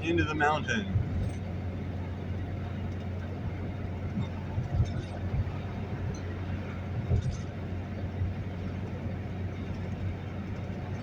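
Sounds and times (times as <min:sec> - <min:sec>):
vehicle engine drone: 0:00.0 - 0:11.0.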